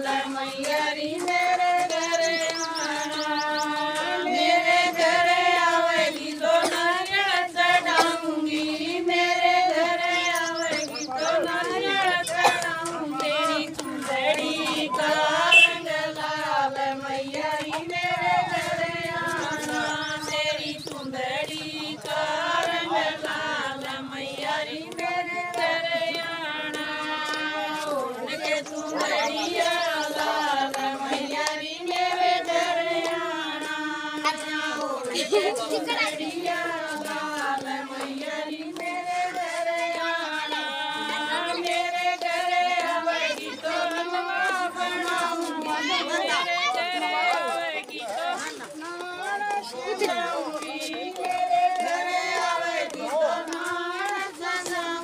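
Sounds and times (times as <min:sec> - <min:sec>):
hand claps: 0:00.0 - 0:55.0
women singing in unison: 0:00.0 - 0:55.0.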